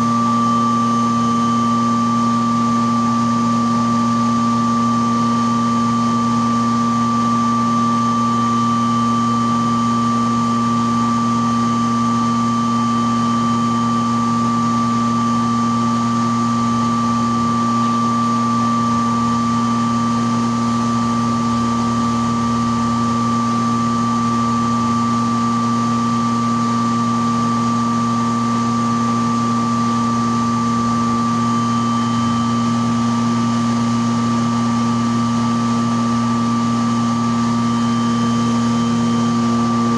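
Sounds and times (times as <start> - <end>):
machine hum with high whine: 0.0 - 39.9.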